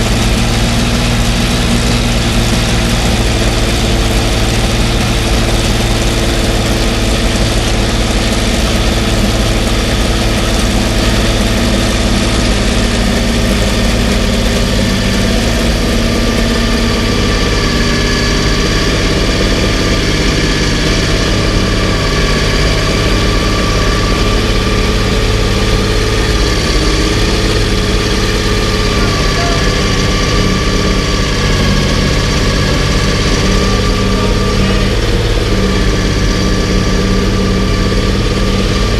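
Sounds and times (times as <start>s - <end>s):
racing engine idling: 0.0s - 38.9s.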